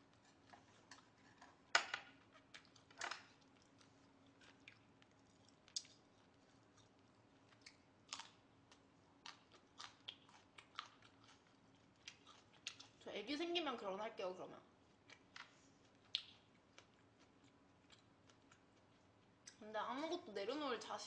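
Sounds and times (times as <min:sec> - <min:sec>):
faint chewing and mouth sounds: 0:00.0 - 0:13.8, 0:14.6 - 0:20.3.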